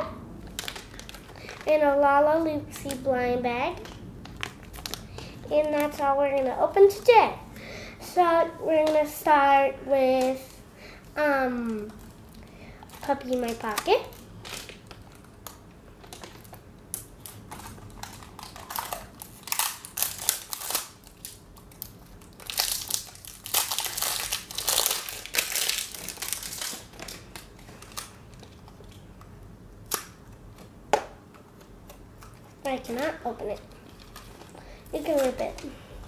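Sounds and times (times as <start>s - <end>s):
plastic packaging crinkling: 0.3s - 7.2s, 11.5s - 30.7s, 31.5s - 35.9s.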